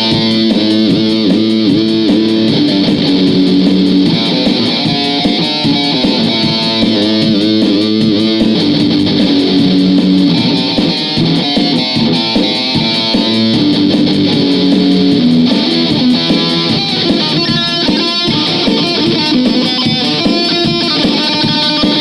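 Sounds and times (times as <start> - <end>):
lead guitar riffs: 0.0 - 22.0.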